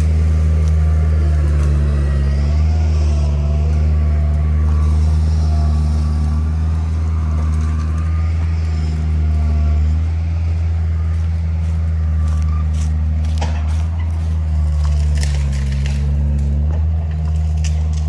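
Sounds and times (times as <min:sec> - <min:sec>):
engine running low drone: 0:00.0 - 0:18.0.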